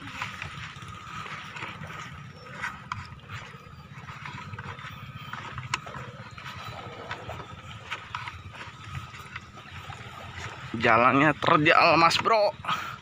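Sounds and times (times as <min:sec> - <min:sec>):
footsteps on loose stones: 0:00.0 - 0:11.7
steady low rumble: 0:00.0 - 0:11.9.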